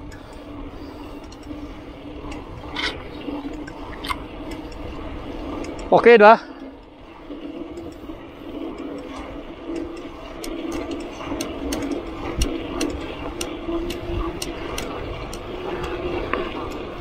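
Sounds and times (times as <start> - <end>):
bike rattling clicks: 0.0 - 17.0
bike tyre hum on concrete: 0.0 - 17.0.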